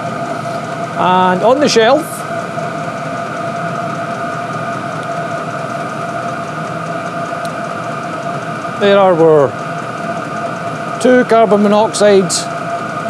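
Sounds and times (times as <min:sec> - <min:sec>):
air heaters humming: 0:00.0 - 0:13.0
constant whine: 0:00.0 - 0:13.0.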